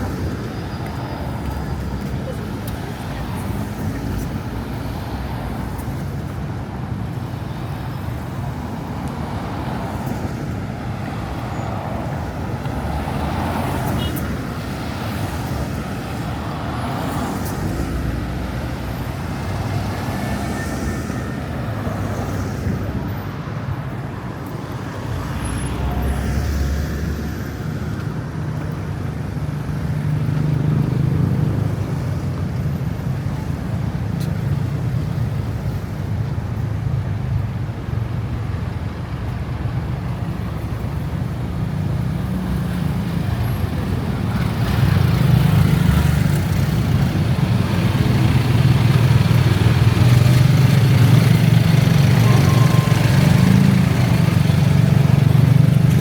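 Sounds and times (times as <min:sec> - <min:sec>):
car and bus engines: 0:00.0 - 0:56.0
vehicles passing close: 0:00.0 - 0:56.0.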